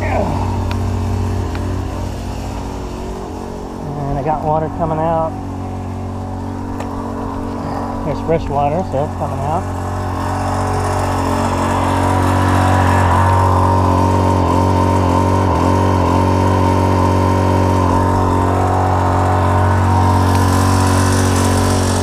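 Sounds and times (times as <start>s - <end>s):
watermaker motor and pump humming: 0.0s - 22.0s.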